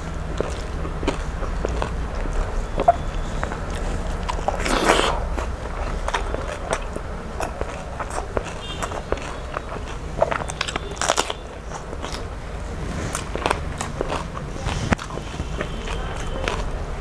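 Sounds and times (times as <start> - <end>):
mouth clicks and crunches: 0.0 - 17.0
person chewing food: 0.0 - 17.0.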